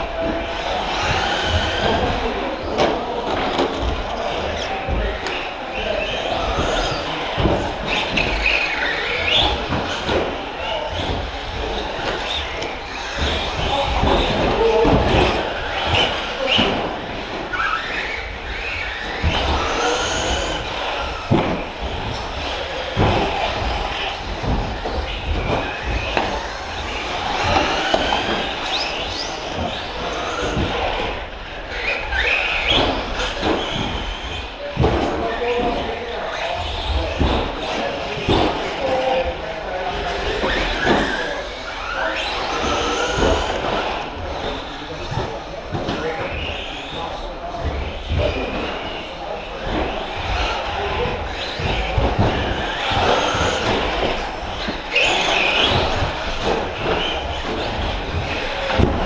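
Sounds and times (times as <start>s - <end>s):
electric motors whining: 0.0s - 59.0s
low thuds of toy trucks: 0.0s - 59.0s.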